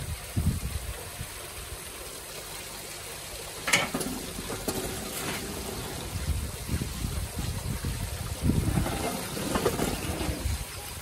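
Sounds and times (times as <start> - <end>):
water running and splashing: 0.0 - 11.0.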